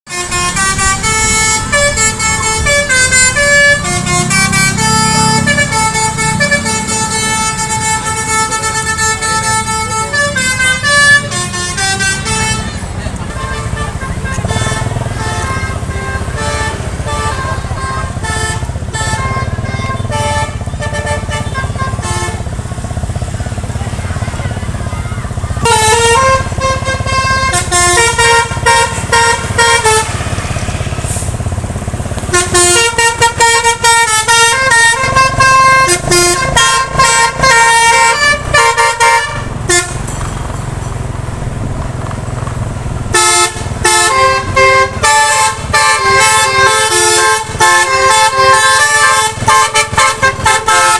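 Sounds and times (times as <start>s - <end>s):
musical air horn melodies: 0.0s - 23.2s, 25.5s - 40.2s, 42.9s - 50.9s
bus engines rumbling: 0.0s - 50.9s.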